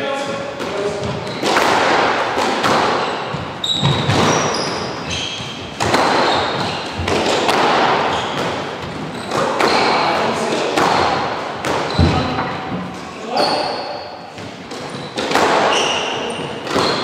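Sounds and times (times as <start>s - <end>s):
squash ball hitting rackets and walls: 0.2s - 17.0s
sneakers squeaking on wooden floor: 0.5s - 17.0s.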